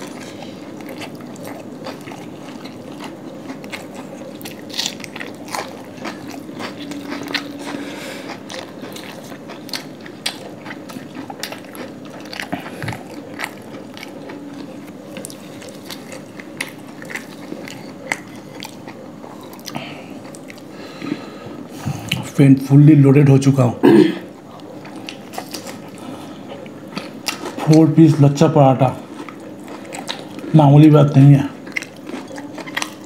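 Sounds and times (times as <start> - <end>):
chewing and mouth noises: 0.0 - 22.4, 24.2 - 33.0.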